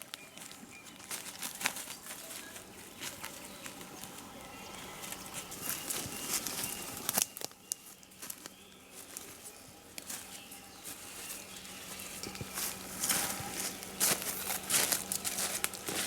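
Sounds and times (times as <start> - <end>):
faint birdsong: 0.0 - 16.0
footsteps through undergrowth: 0.0 - 16.0
leaves rustling: 0.0 - 16.0
twigs crackling: 0.0 - 16.0.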